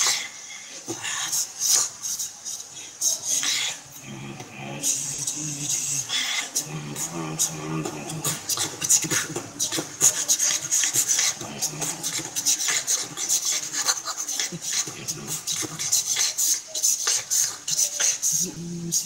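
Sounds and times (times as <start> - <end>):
person beatboxing: 0.0 - 19.0.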